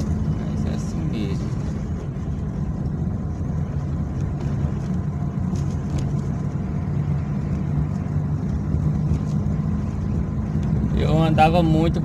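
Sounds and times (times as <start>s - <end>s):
car engine running: 0.0s - 12.0s
tyre and road noise: 0.0s - 12.0s.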